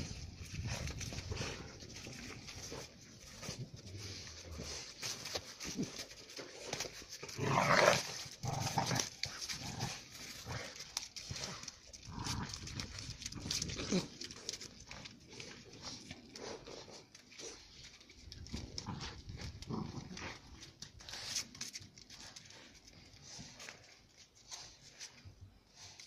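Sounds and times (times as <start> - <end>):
puppies growling and snarling: 0.0 - 24.1.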